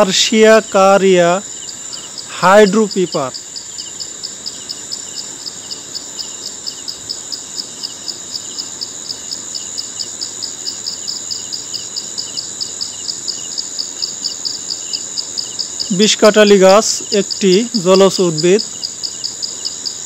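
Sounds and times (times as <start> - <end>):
insect high-pitched trill: 0.0 - 20.0
rapid insect chirping: 0.0 - 20.0.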